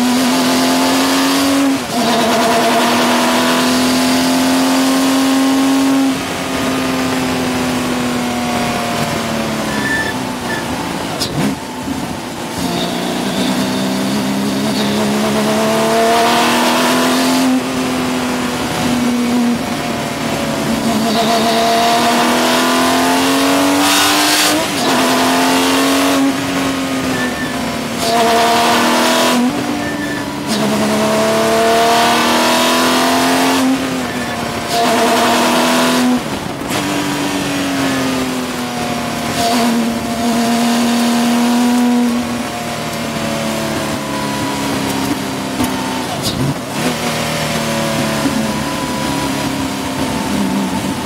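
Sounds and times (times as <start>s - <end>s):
racing engine revving: 0.0s - 51.0s.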